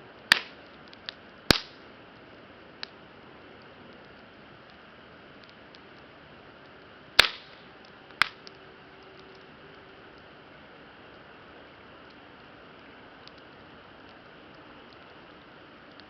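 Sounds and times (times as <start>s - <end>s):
campfire crackling: 0.0s - 16.0s
sharp pops from burning wood: 0.1s - 16.0s.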